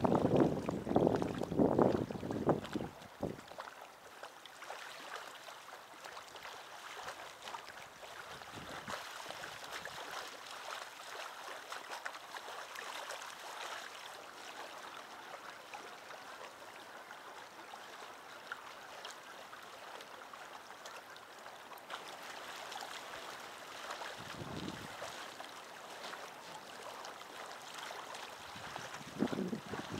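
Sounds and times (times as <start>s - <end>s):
small waves lapping on rocks: 0.0s - 29.9s.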